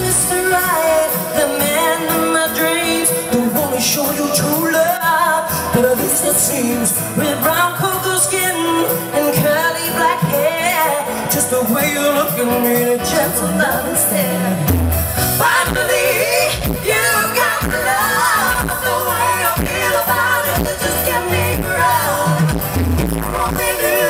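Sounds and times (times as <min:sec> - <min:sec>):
woman singing into a microphone: 0:00.0 - 0:24.0.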